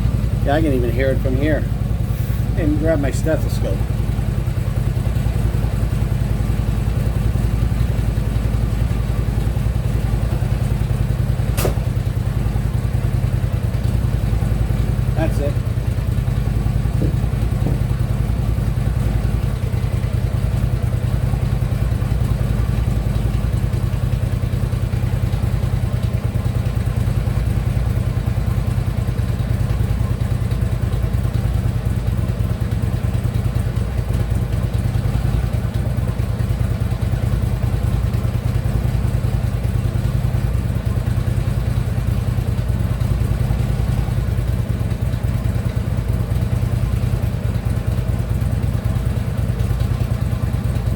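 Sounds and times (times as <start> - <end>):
engine knocking: 0.0 - 50.9
motorcycle engine idling: 0.0 - 50.9.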